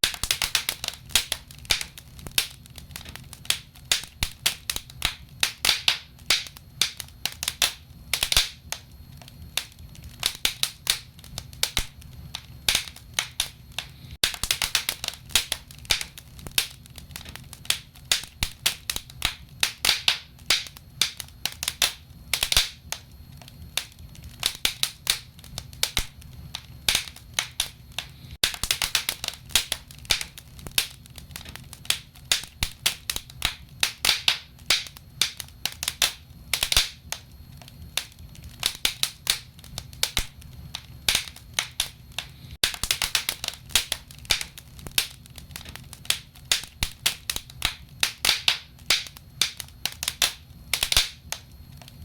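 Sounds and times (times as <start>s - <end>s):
low fire rumble: 0.0s - 52.0s
wood fire crackling and popping: 0.0s - 52.0s.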